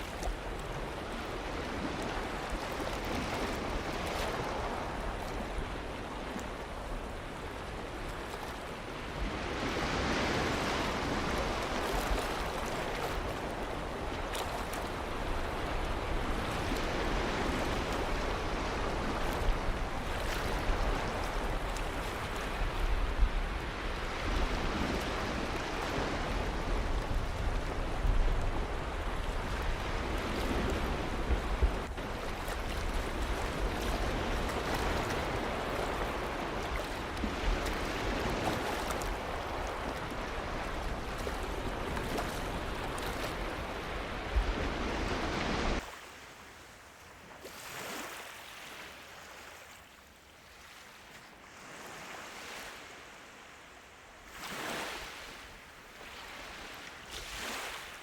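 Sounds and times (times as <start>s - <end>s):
ocean surf breaking on shore: 0.0s - 58.0s.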